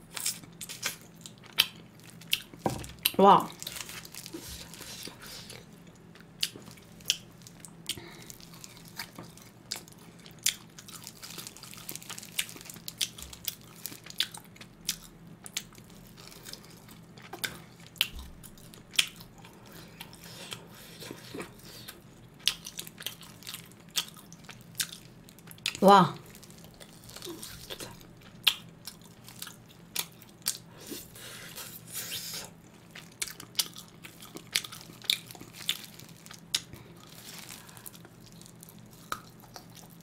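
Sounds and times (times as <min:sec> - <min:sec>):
meat being bitten and chewed: 0:00.1 - 0:40.0.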